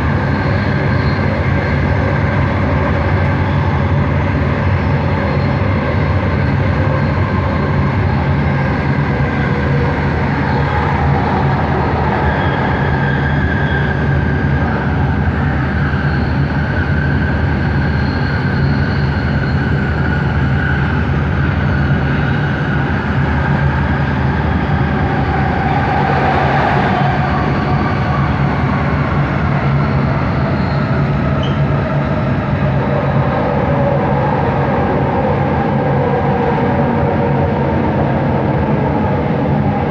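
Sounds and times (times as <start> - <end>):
metro train rumbling on track: 0.0 - 39.9.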